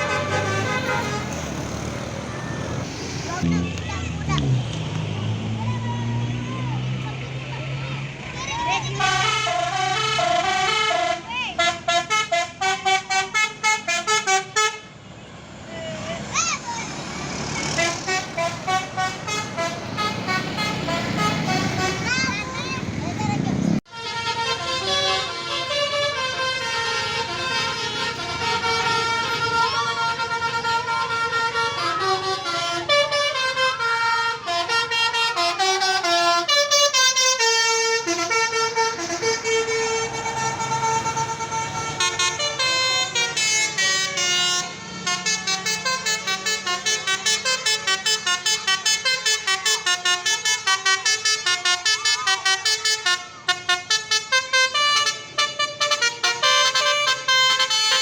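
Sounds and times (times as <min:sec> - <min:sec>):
bus air horn melody: 0:00.0 - 0:01.8, 0:08.7 - 0:14.9, 0:17.7 - 0:22.3, 0:23.9 - 0:58.0.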